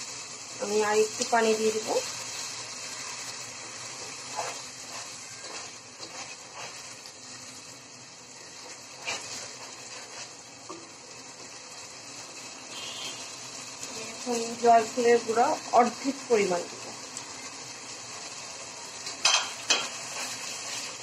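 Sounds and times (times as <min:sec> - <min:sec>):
paste sizzling in a pot: 0:00.0 - 0:21.0.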